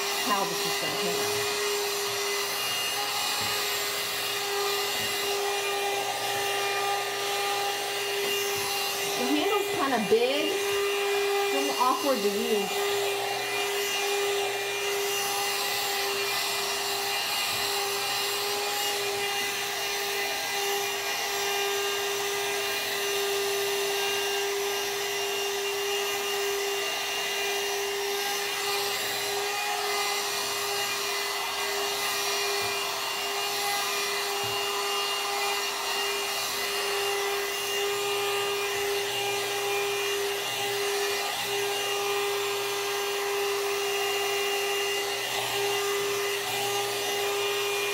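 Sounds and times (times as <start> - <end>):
hair dryer motor whine: 0.0 - 47.9.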